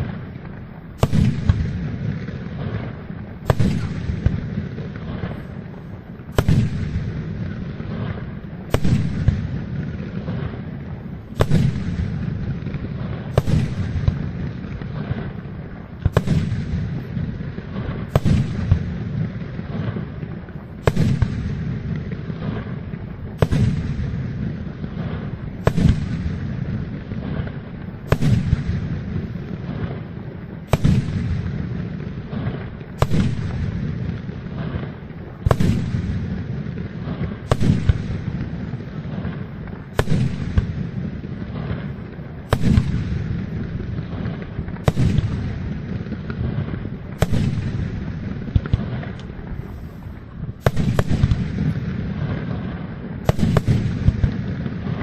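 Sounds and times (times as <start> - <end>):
rumble and crackle of fireworks: 0.0 - 55.0.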